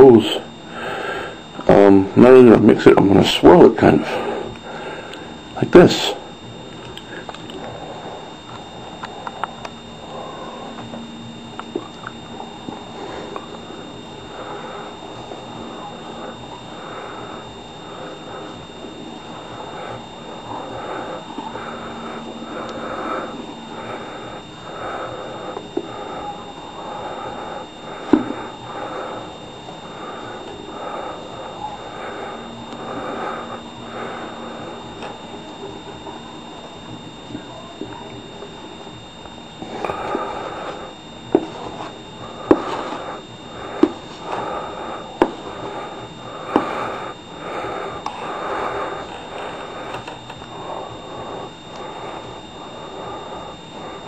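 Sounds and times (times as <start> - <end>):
person breathing heavily: 0.1 - 2.1, 4.0 - 6.3, 7.0 - 8.5, 10.0 - 10.9, 12.7 - 35.7, 39.6 - 54.0.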